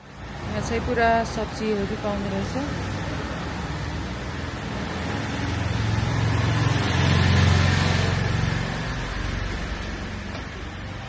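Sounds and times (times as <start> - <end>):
vehicle engine passing by: 0.3 - 11.0.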